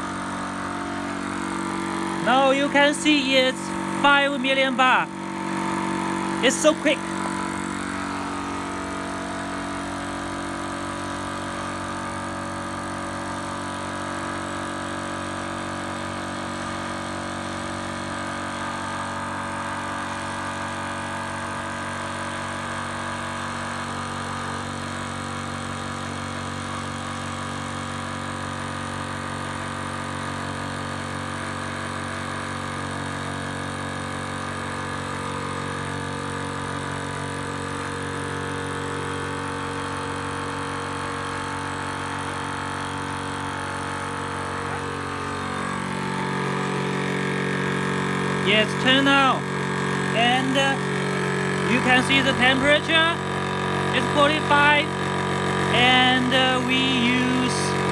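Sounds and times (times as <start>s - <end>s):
air compressor humming: 0.0s - 57.9s.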